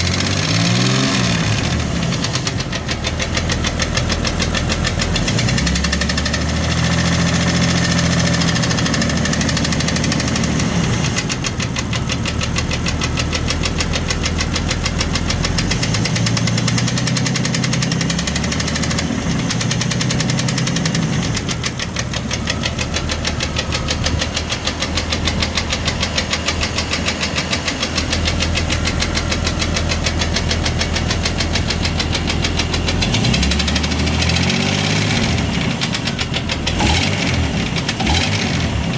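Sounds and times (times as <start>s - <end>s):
car engine running: 0.0s - 38.9s
rapid even engine tapping: 0.0s - 38.9s.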